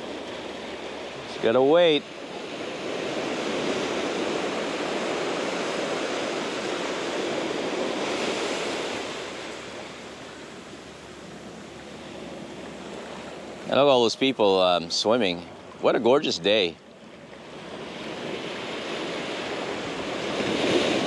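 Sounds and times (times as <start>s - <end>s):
small waves washing over sand: 0.0s - 21.0s.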